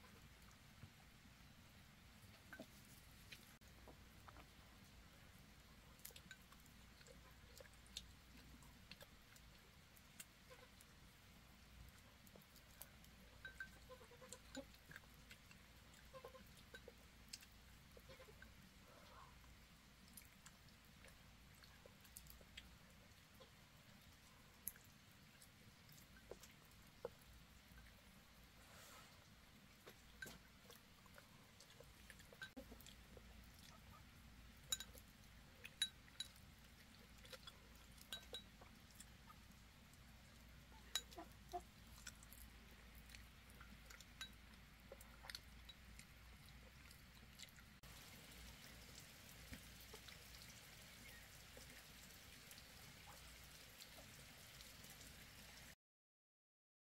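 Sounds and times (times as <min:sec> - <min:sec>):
low steady hiss: 0:00.0 - 0:55.8.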